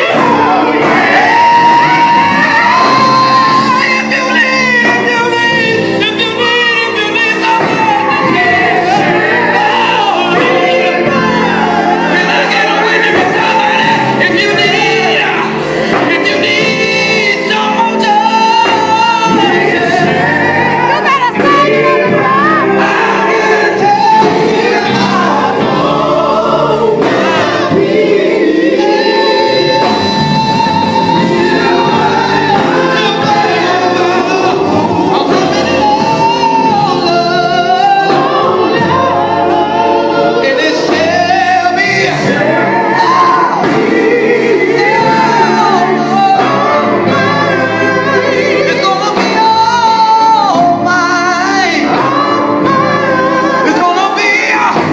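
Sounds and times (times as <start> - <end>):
male vocal group singing: 0.0 - 54.9.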